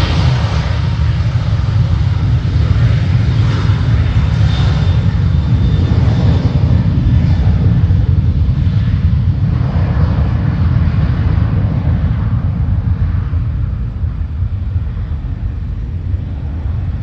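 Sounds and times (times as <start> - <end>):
jet aircraft taking off: 0.0 - 17.0.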